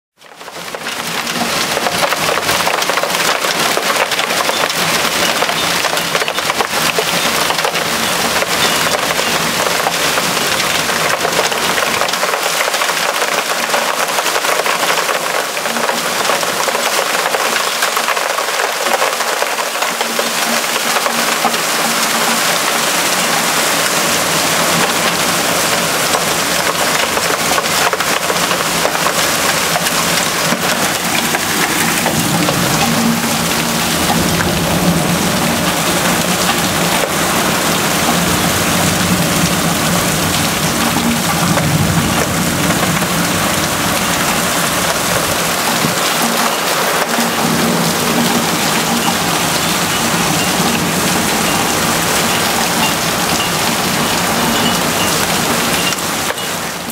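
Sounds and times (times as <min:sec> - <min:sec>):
hailstones pelting down: 0:00.2 - 0:56.9.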